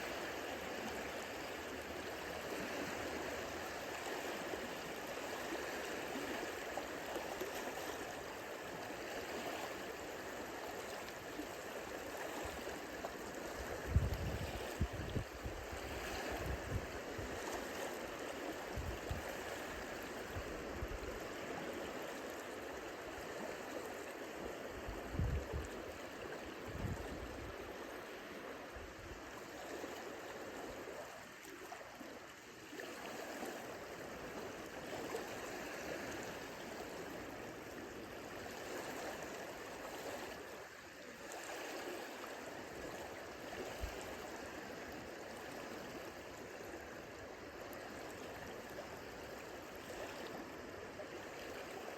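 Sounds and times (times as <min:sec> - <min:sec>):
small waves lapping on shore: 0:00.0 - 0:51.9.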